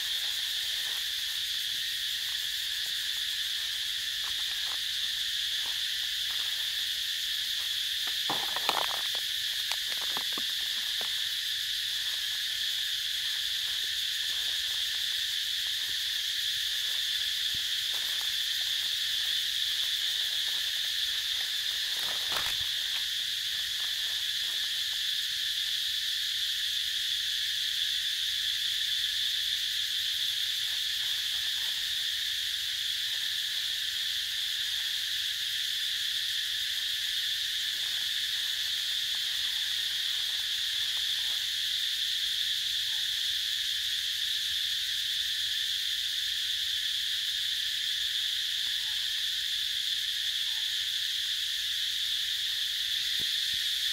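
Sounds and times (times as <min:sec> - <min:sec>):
insect chorus buzzing trill: 0:00.0 - 0:53.9.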